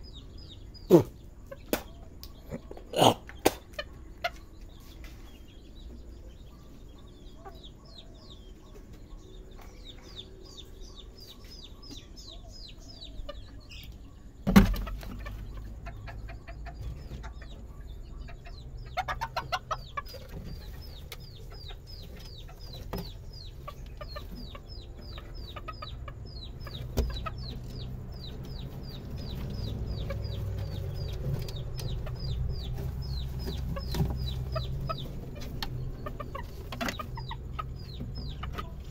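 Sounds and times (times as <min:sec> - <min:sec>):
chickens cheeping: 0:00.0 - 0:38.9
chickens clucking: 0:00.0 - 0:38.9.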